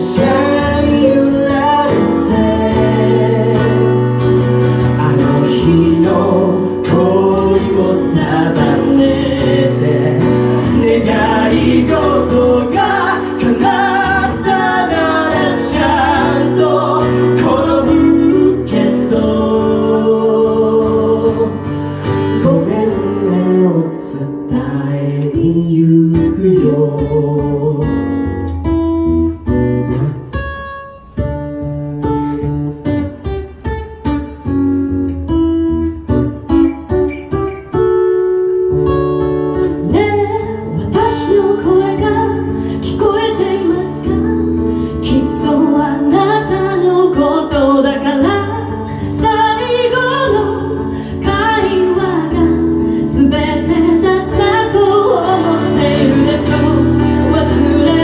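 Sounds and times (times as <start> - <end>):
wavering lead guitar melody: 0.0 - 25.5, 27.4 - 58.0.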